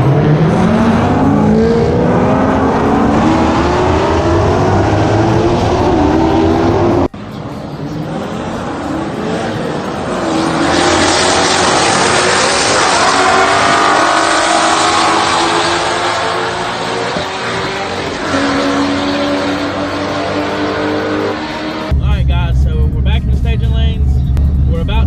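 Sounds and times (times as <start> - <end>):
drag car engines accelerating: 0.0 - 25.0.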